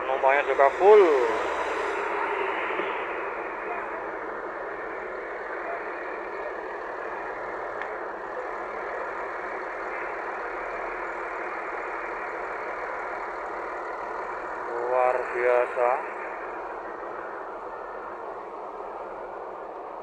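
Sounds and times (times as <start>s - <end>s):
buses running: 0.0s - 20.0s.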